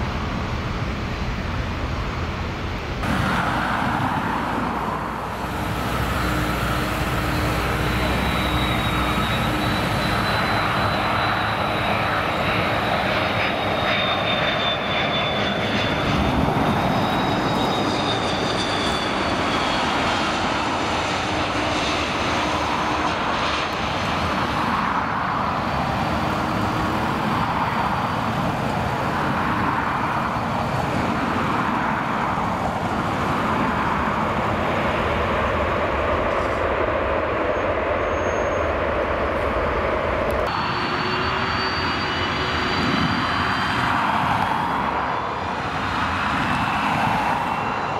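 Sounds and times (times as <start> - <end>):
jet engines rushing and whining: 0.0 - 47.9.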